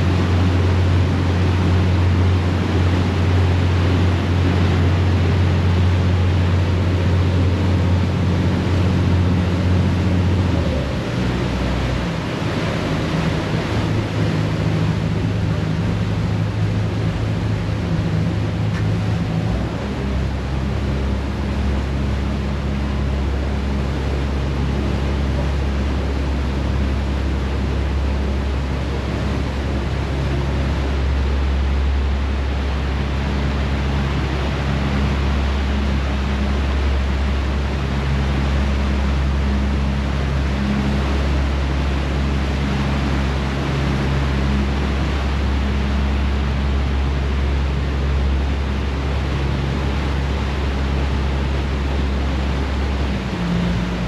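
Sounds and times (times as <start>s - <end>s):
churning wake rushing: 0.0s - 54.0s
ferry engines droning: 0.0s - 54.0s
wind: 0.0s - 54.0s.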